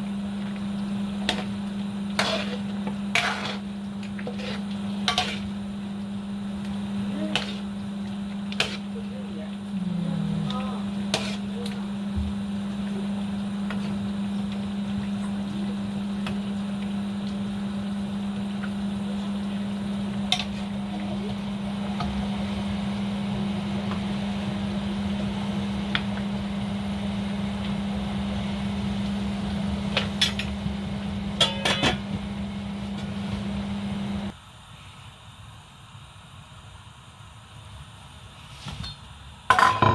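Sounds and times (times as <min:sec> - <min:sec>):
appliance motor humming: 0:00.0 - 0:34.3.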